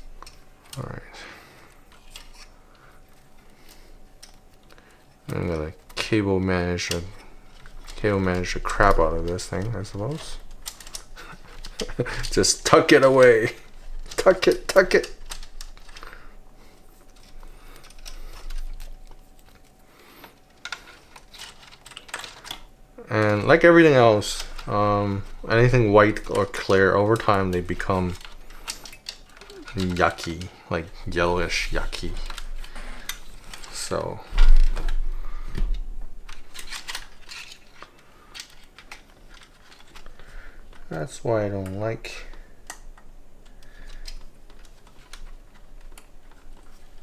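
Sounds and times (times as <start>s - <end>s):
cables clicking and rustling: 0.0s - 47.0s.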